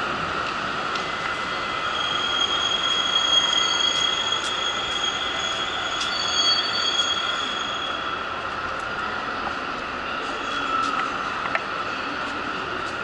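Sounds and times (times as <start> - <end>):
electric train rumbling: 0.0 - 13.0
wheels and brakes squealing: 0.6 - 13.0.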